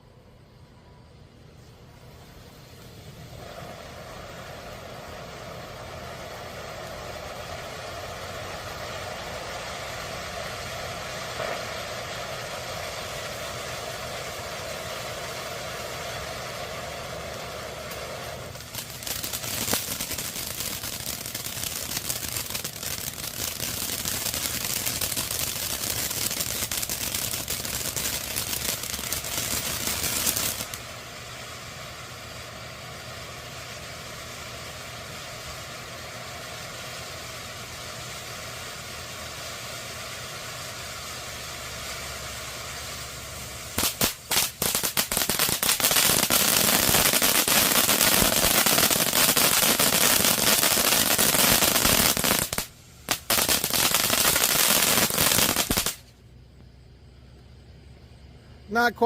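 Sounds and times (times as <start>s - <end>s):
firework crackling: 0.0s - 59.0s
firework fountain hissing: 0.0s - 59.0s.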